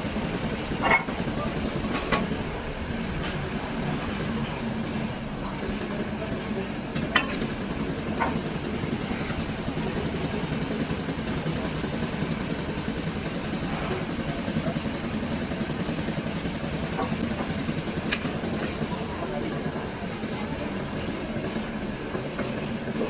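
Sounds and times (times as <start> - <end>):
hydraulic press running: 0.0 - 23.0.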